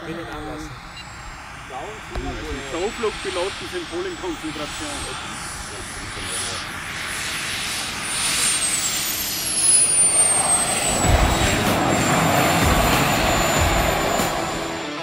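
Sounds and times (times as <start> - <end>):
gas turbine whine: 0.0 - 15.0
turbine roar: 0.0 - 15.0.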